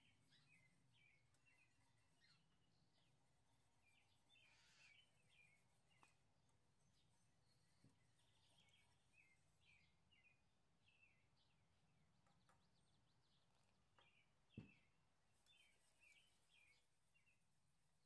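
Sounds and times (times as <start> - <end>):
faint bird chirps: 0.0 - 17.6.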